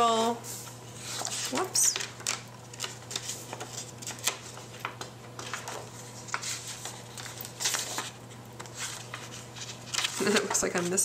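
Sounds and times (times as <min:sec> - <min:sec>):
paper pages turning: 0:00.5 - 0:11.0.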